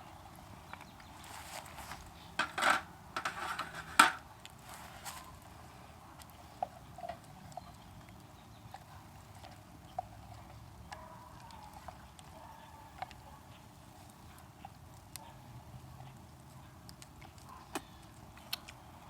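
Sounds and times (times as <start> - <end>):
campfire crackling faintly: 0.0 - 19.0.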